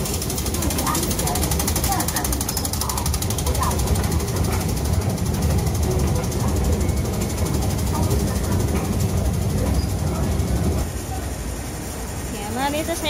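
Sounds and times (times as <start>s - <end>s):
busy metro station rumble: 0.0s - 13.0s.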